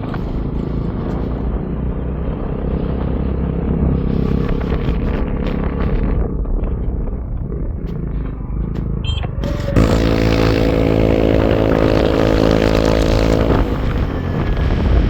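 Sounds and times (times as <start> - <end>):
road and wind noise: 0.0 - 15.0
steady engine drone: 0.0 - 15.0
vehicle engine running: 0.0 - 15.0.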